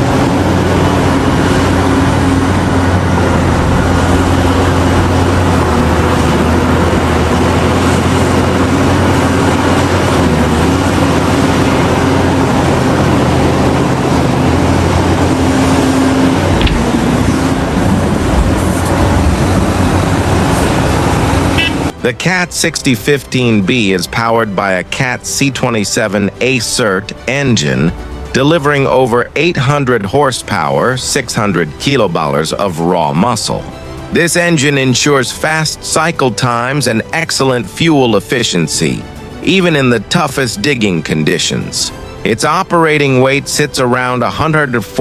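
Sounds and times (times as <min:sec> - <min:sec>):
heavy diesel engine droning: 0:00.0 - 0:45.0.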